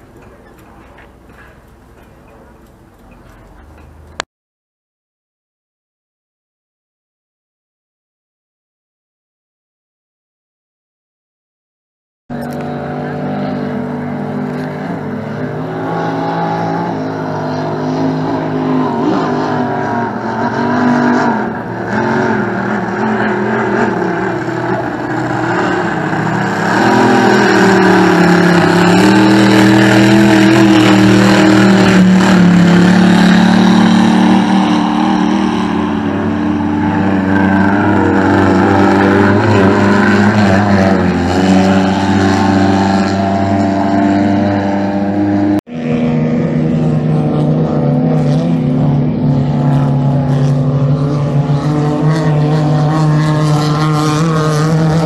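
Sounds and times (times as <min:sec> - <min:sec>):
racing powerboat engines at high revs: 0:00.0 - 0:04.2, 0:12.3 - 0:55.0.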